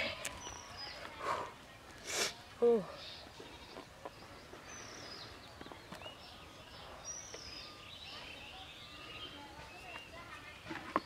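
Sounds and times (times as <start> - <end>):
high falling bird calls: 0.0 - 1.2, 2.6 - 11.0
birds chirping: 0.0 - 11.0.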